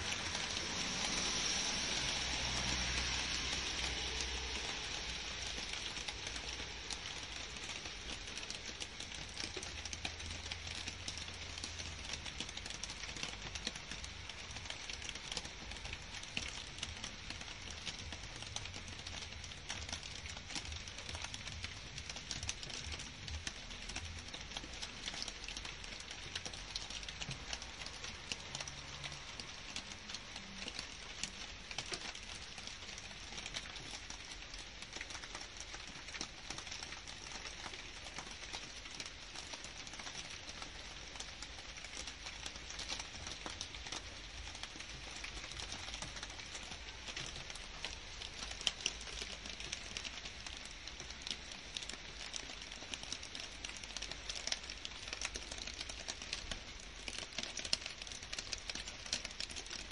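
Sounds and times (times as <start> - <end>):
rain hissing on leaves: 0.0 - 59.9
raindrop ticks: 0.0 - 59.9.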